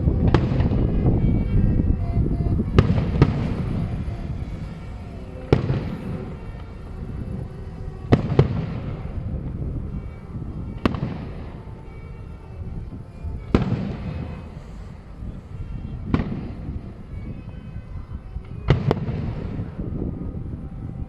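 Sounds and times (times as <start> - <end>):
fireworks bangs: 0.0 - 17.6, 18.6 - 19.8
steady low rumble: 0.0 - 21.0.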